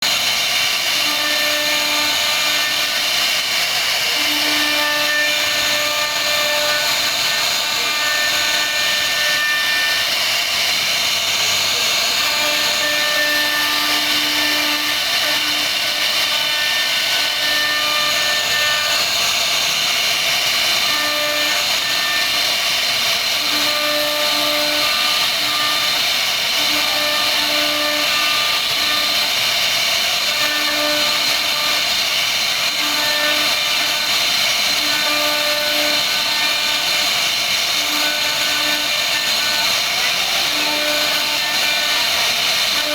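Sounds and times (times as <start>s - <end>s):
router spindle whine and cutting hiss: 0.0s - 42.9s.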